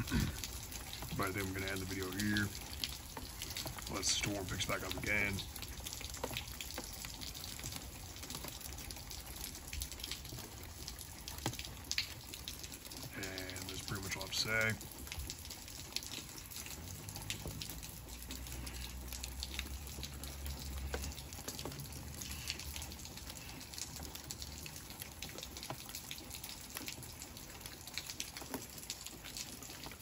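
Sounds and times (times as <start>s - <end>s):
rain pattering on a wet patio: 0.0s - 30.0s.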